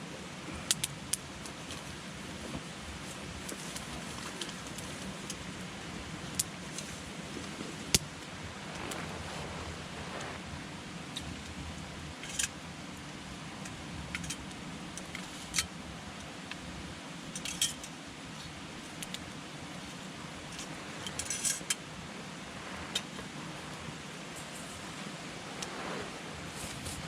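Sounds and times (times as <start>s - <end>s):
campfire hissing: 0.0s - 27.0s
burning wood crackling and popping: 0.5s - 27.0s.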